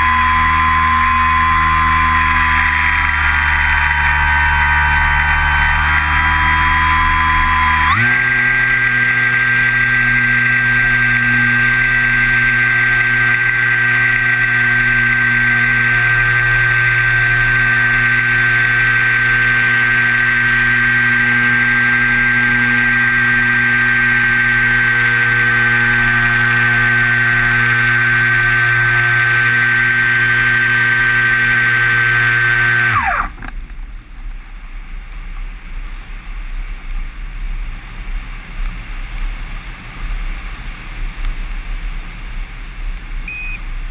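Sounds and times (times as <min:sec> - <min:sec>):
electric motor and propeller whine: 0:00.0 - 0:43.9.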